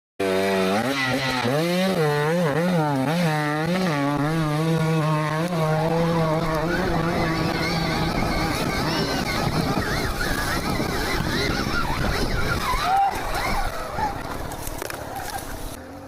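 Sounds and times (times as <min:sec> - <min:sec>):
dirt bike revving: 0:00.2 - 0:16.0.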